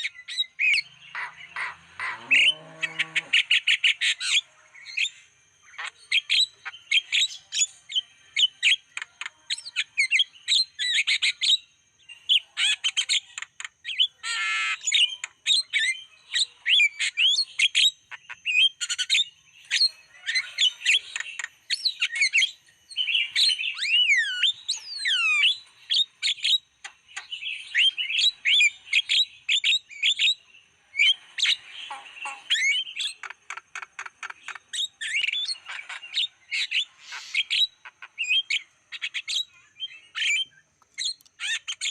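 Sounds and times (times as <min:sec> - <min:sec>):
bird chattering and whistling: 0:00.0 - 0:41.9.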